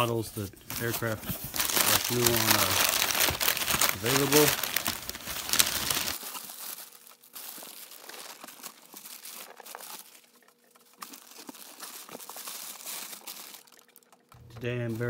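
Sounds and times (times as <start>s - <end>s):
packing paper rustling: 0.4s - 14.0s.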